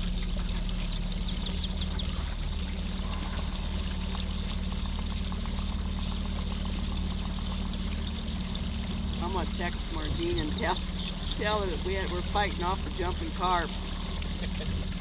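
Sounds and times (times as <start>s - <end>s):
electric motor humming: 0.0s - 15.0s
water gurgling along boat: 0.0s - 15.0s.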